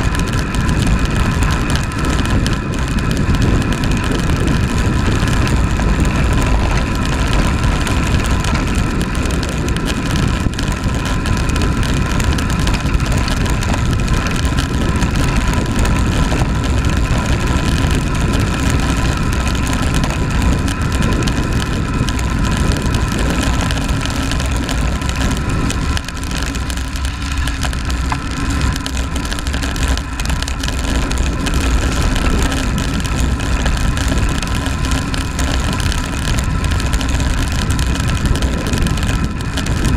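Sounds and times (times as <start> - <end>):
tyre noise on tarmac: 0.0 - 39.9
wind buffeting microphone: 0.0 - 39.9.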